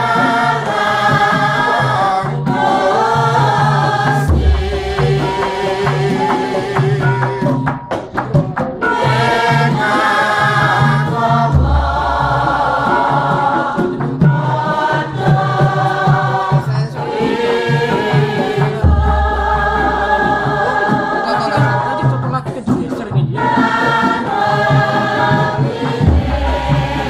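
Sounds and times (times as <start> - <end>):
chorus of voices singing: 0.0 - 27.0
gamelan music: 0.0 - 27.0.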